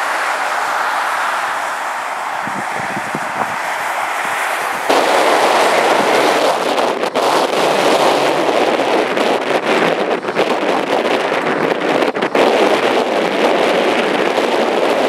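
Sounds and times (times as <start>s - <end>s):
jet engines running at high power: 0.0s - 15.0s
turboprop taxiing: 0.0s - 15.0s
wind buffeting microphone: 0.0s - 15.0s.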